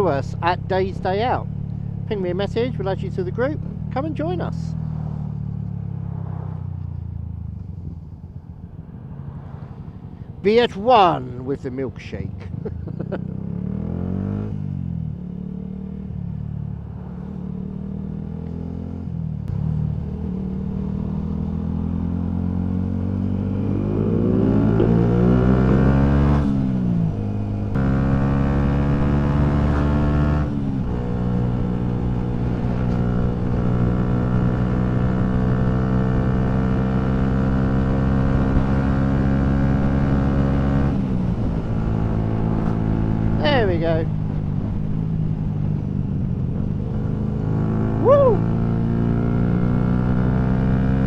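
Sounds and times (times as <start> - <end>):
motorcycle engine accelerating: 0.0 - 11.3, 12.3 - 51.0.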